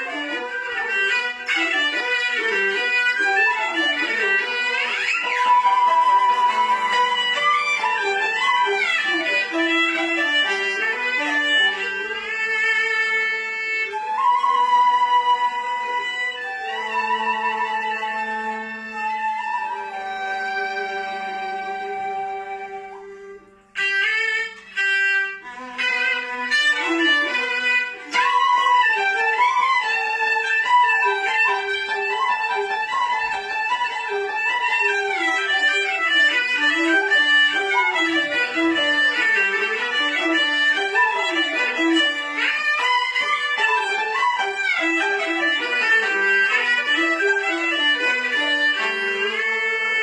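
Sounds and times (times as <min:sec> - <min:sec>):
accompanying instruments: 0:00.0 - 0:50.0
bowed string melody: 0:00.0 - 0:50.0.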